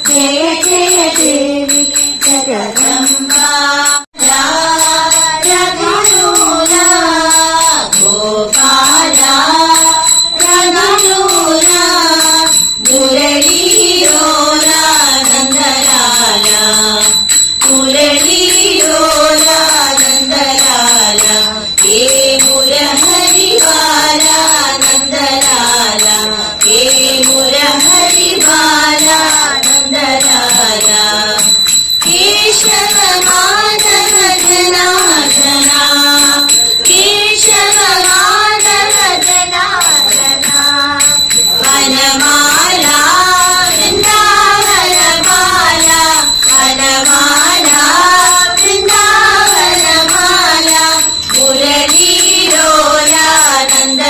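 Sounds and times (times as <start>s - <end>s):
group of girls singing: 0.0s - 54.0s
woman singing into microphone: 0.0s - 54.0s.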